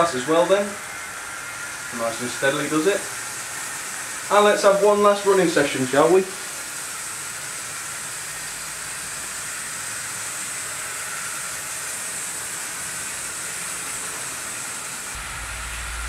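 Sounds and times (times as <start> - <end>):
model trains whirring on track: 0.0 - 16.0.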